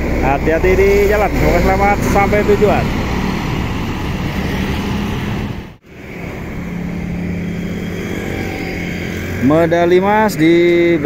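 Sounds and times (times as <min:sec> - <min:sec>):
bus engine passing: 0:00.0 - 0:11.0
traffic rumble: 0:00.0 - 0:11.0.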